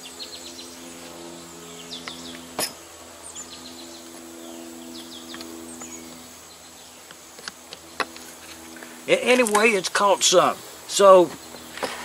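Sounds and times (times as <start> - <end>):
bees buzzing: 0.0 - 12.0
small birds chirping: 0.0 - 12.0.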